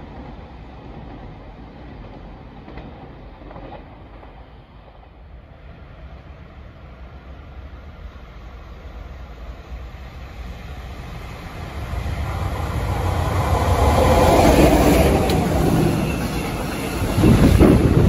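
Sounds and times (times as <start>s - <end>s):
freight train passing: 0.0s - 18.0s.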